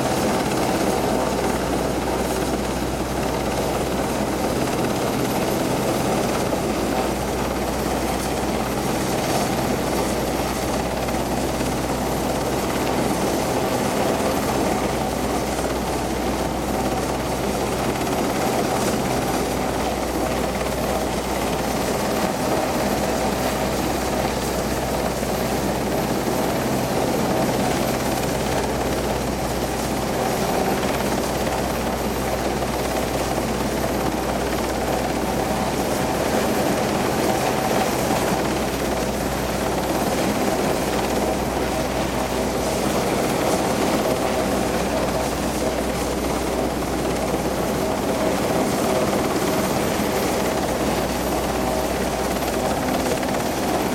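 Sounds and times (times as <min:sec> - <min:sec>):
helicopter rotors and engines: 0:00.0 - 0:53.9.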